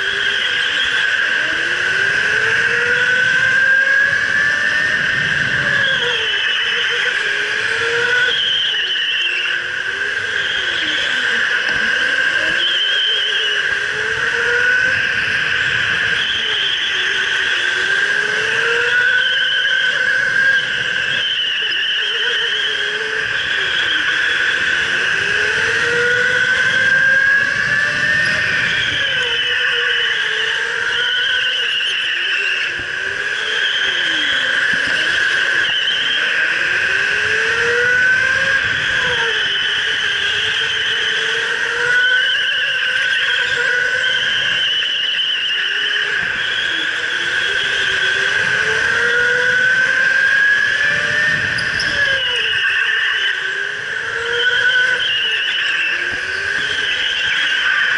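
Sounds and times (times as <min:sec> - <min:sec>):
tyre and wind noise: 0:00.0 - 0:31.8, 0:32.5 - 0:44.8, 0:46.0 - 0:52.9
electric go-kart motor whining: 0:00.0 - 0:57.9.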